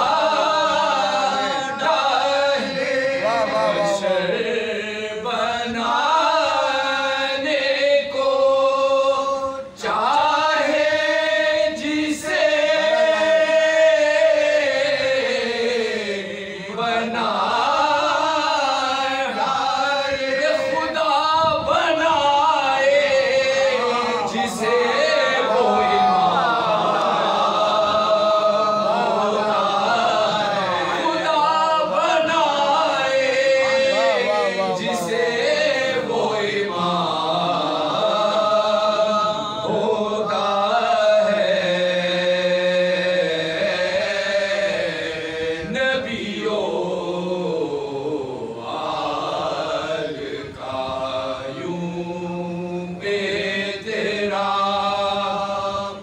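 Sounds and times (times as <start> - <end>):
lead voice singing: 0.0 - 56.0
men chanting unaccompanied: 0.0 - 56.0.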